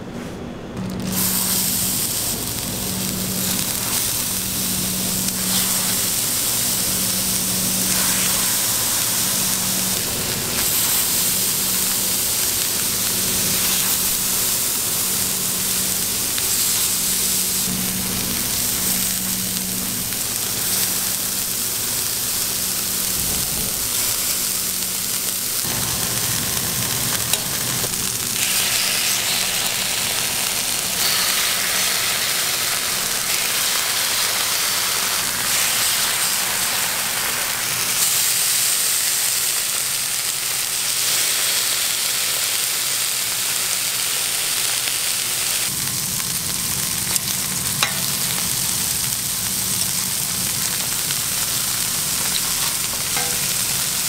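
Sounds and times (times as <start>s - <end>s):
meat sizzling on griddle: 0.8s - 54.0s.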